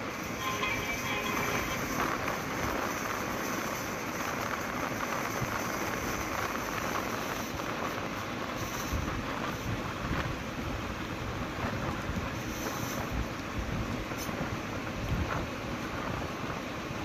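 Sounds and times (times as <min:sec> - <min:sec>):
motorcycle road noise: 0:00.0 - 0:17.0
wind rushing over microphone: 0:01.8 - 0:17.0.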